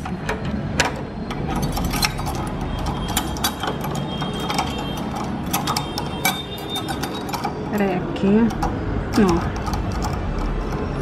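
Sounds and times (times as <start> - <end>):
padlock metallic clicks and rattles: 0.0 - 11.0.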